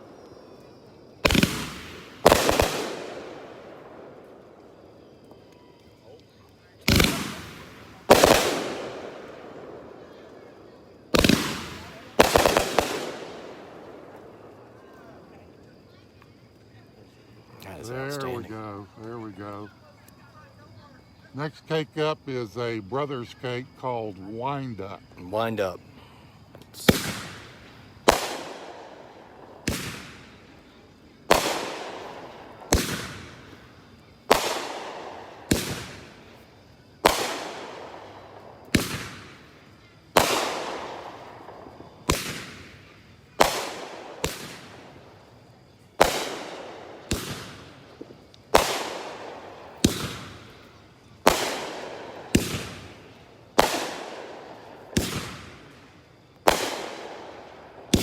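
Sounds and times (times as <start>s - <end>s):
fireworks bangs: 0.0s - 16.0s, 25.8s - 58.0s.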